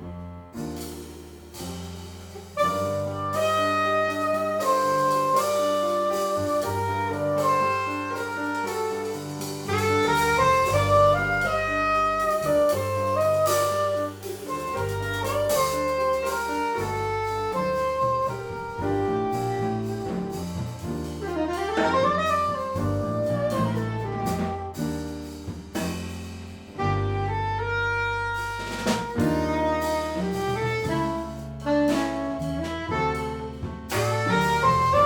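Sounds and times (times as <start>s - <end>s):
bass: 0.0s - 35.0s
drums: 0.0s - 35.0s
piano: 0.0s - 35.0s
saxophone melody: 2.5s - 24.7s, 26.8s - 35.0s.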